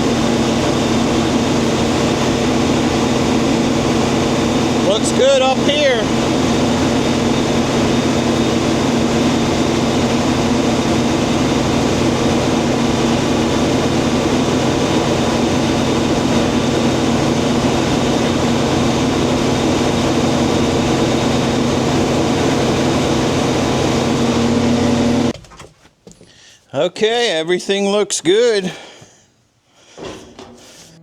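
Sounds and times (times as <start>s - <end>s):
combine harvester machine drone: 0.0s - 25.3s.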